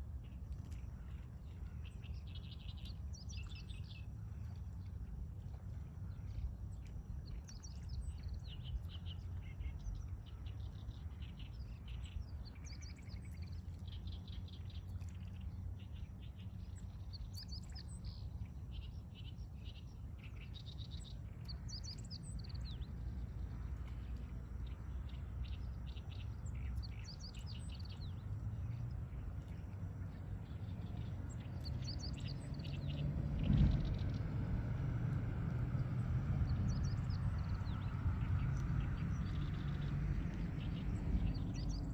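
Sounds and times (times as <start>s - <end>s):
songbirds chirping: 0.0s - 41.9s
steady low rumble: 0.0s - 41.9s.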